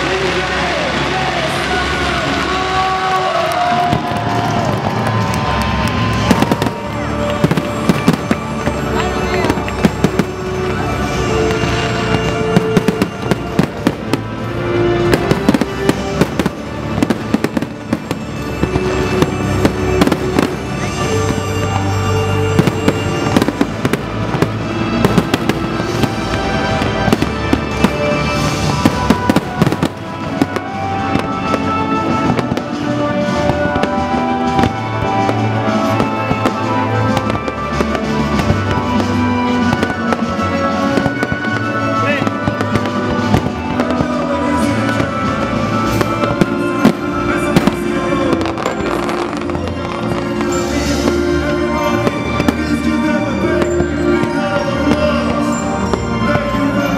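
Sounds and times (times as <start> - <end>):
fireworks bangs and crackles: 0.0 - 56.9
loud music with held notes: 0.0 - 56.9.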